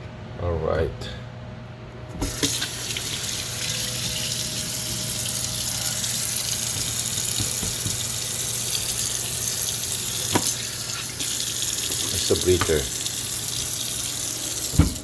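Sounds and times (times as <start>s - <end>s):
water rushing from drain: 2.2s - 15.0s.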